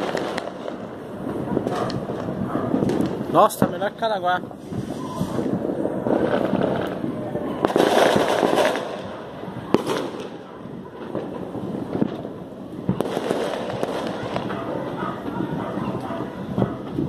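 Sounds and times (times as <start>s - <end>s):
fireworks crackling: 0.0s - 17.0s
loud firework bangs: 0.0s - 17.0s.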